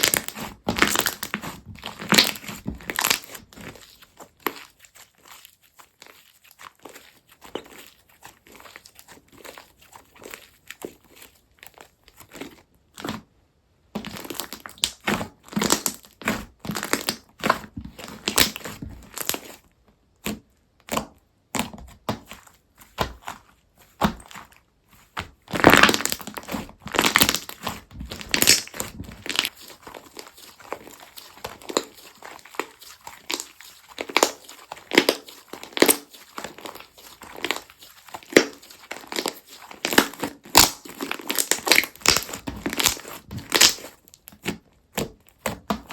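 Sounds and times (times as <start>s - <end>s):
slime crackling and popping: 0.0s - 19.6s, 20.2s - 45.9s.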